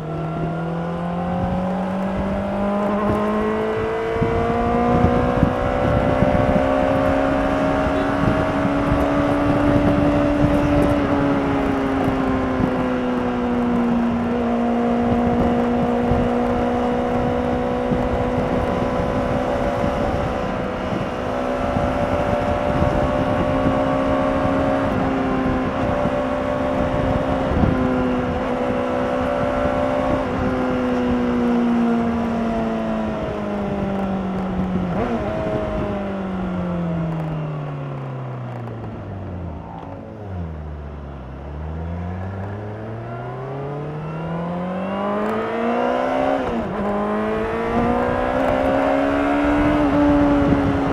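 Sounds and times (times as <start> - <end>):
motorcycle engine: 0.0 - 50.9
wind and road rush: 0.0 - 50.9.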